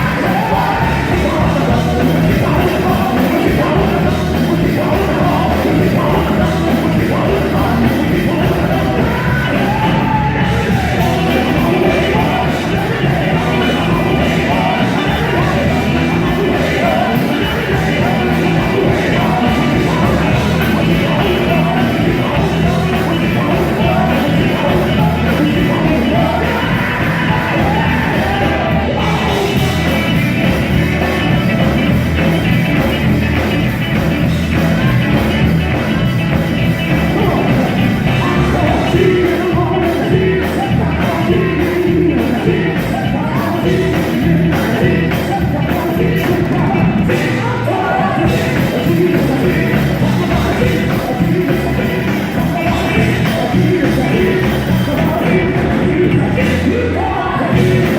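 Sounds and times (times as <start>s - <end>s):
gospel vocals: 0.0s - 31.7s, 36.8s - 57.9s
band with bass and drums: 0.0s - 57.9s.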